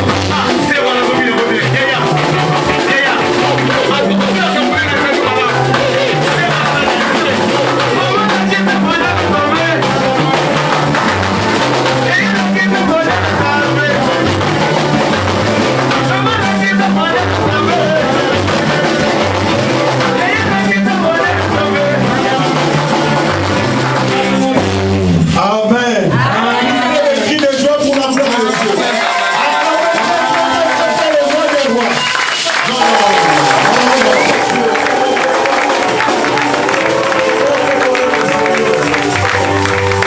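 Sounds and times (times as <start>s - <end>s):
people singing: 0.0s - 24.8s, 32.7s - 40.0s
drums: 0.0s - 26.4s, 27.2s - 40.0s
live band playing: 0.0s - 40.0s.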